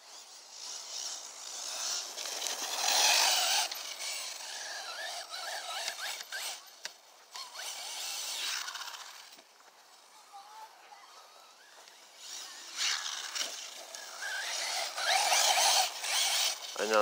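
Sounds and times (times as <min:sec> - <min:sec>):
electric motor whine: 0:00.0 - 0:17.0
tires scraping on dirt: 0:00.0 - 0:17.0.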